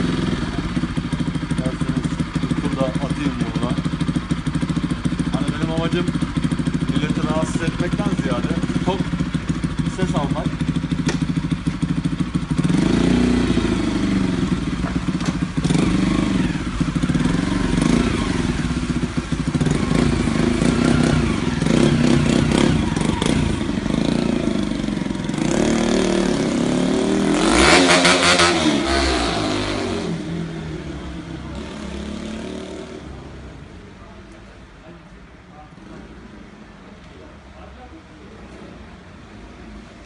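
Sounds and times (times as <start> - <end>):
motorcycle engine revving: 0.0 - 33.8.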